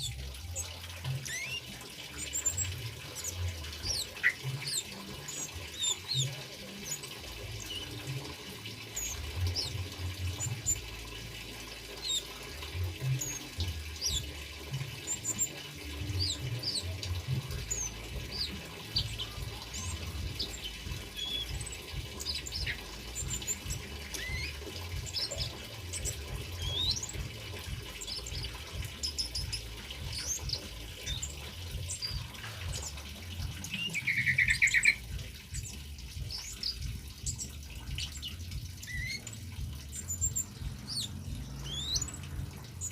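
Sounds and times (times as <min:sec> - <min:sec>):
small songbirds chirping: 0:00.0 - 0:42.9
trickle of running water: 0:00.0 - 0:42.9.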